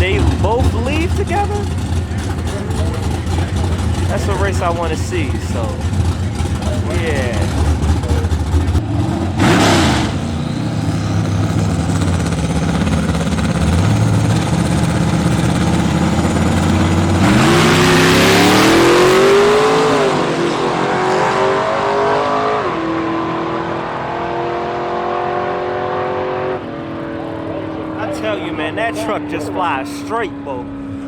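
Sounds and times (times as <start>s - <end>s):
drag racing engines revving: 0.0s - 31.0s.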